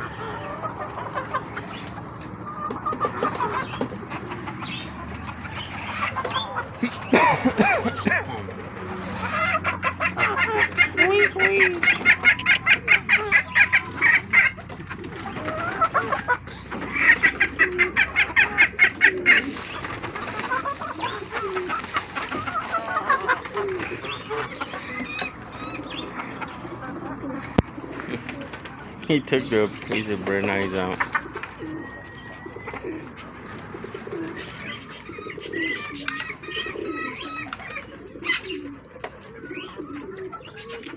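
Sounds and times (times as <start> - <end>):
pigeons cooing: 0.0 - 40.9
wings fluttering: 0.0 - 40.9.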